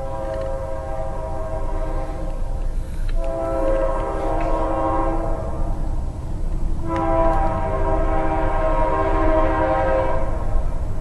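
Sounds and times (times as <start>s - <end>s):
locomotive air horn: 0.0s - 5.9s, 6.8s - 10.6s
low rumble: 0.0s - 11.0s.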